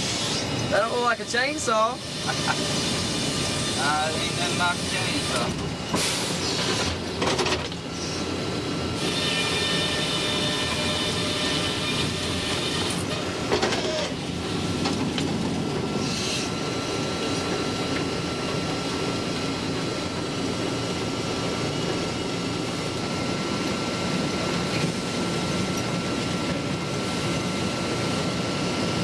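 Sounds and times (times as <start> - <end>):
sawmill machinery din: 0.0 - 29.0.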